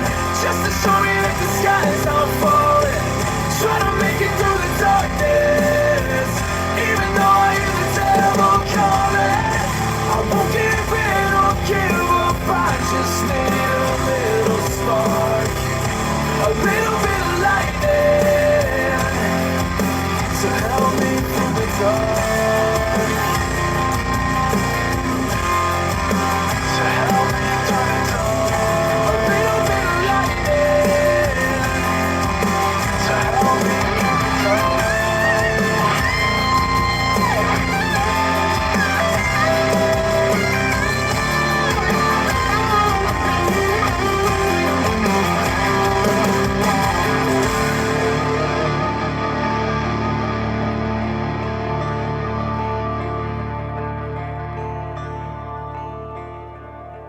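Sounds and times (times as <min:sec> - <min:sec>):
person singing: 0:00.0 - 0:55.9
electric guitar: 0:00.0 - 0:57.0
rock band playing: 0:00.0 - 0:57.0.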